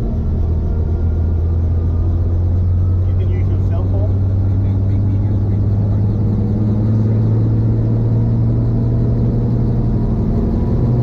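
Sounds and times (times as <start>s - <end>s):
helicopter engine and rotors: 0.0s - 11.0s.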